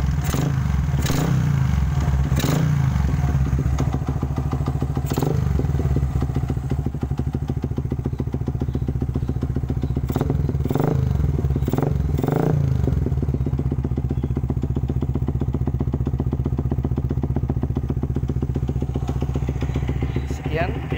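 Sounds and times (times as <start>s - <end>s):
engine throttle blips: 0.0s - 20.9s
motorcycle engine idling: 0.0s - 20.9s.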